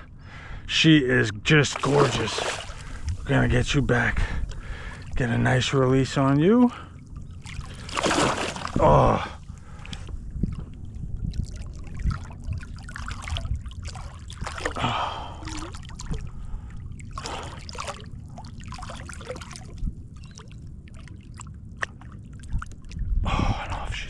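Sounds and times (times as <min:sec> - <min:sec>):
water splashing and trickling: 0:01.6 - 0:23.1.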